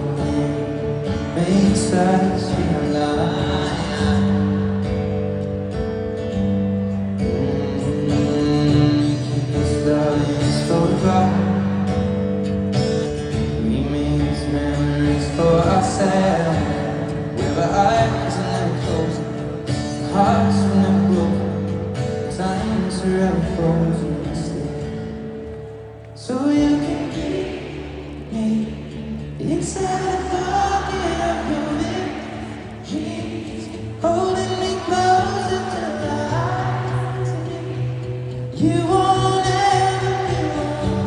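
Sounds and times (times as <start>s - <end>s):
man singing: 0.0s - 5.1s, 6.9s - 12.0s, 13.2s - 25.2s, 26.2s - 41.0s
pop ballad over loudspeakers: 0.0s - 41.0s.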